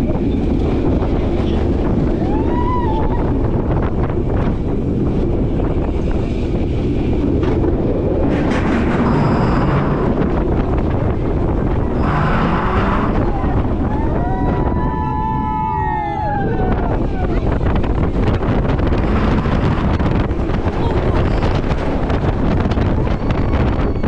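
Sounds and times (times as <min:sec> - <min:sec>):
roller coaster train rumbling: 0:00.0 - 0:24.0
wind blasting over microphone: 0:00.0 - 0:24.0.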